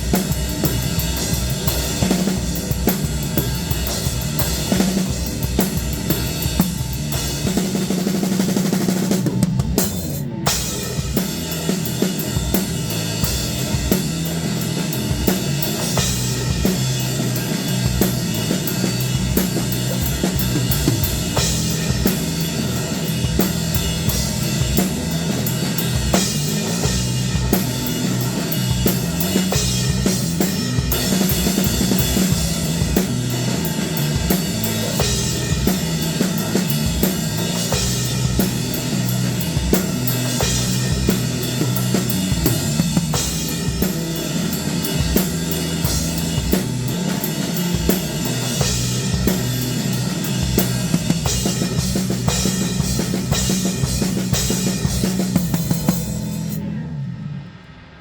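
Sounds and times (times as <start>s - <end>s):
drum kit playing a groove: 0.0s - 57.1s.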